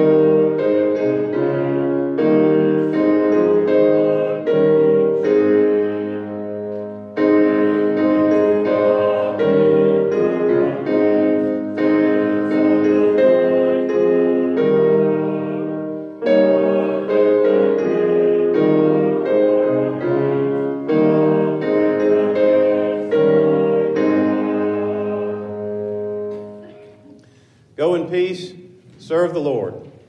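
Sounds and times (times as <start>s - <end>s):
piano playing hymn chords: 0.0s - 29.8s.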